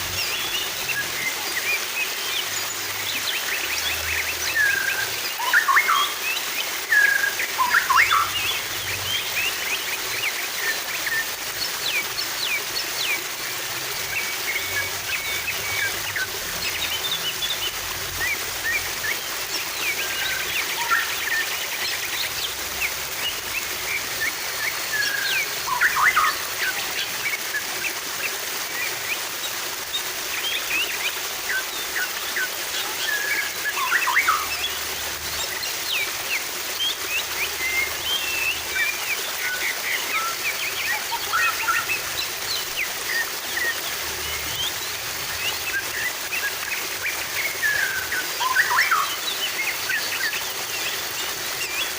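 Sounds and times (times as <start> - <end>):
flowing water: 0.0 - 51.9
songbirds chirping: 0.0 - 51.9.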